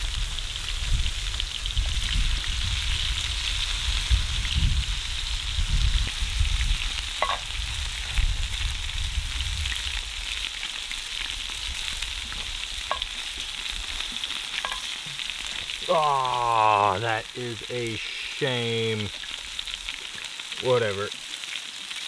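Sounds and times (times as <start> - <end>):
meat sizzling in a skillet: 0.0 - 22.0.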